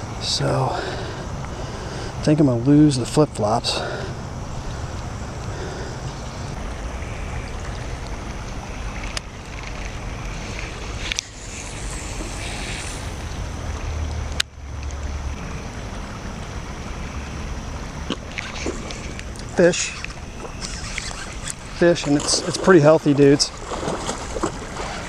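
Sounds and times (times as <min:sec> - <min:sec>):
low rushing noise: 0:00.0 - 0:20.6.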